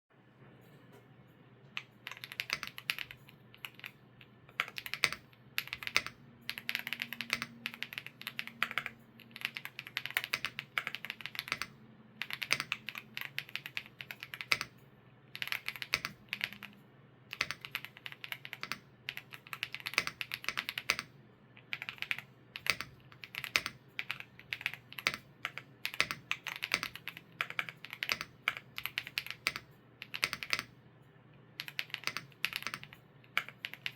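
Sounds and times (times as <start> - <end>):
mechanical keyboard typing: 1.8 - 30.8, 31.6 - 33.9.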